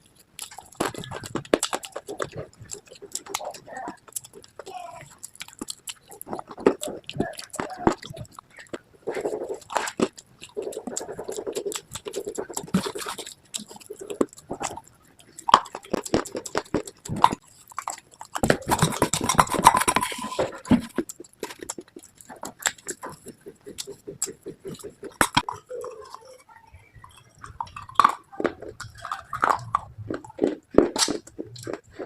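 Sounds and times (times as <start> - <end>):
slate crunching and chewing: 0.0 - 32.0.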